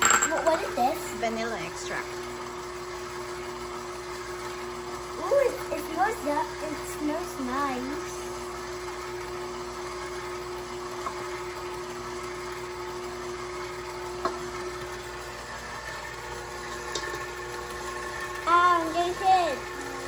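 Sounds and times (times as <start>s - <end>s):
beater mixing cookie dough: 0.0s - 20.0s
stand mixer humming: 0.0s - 20.0s.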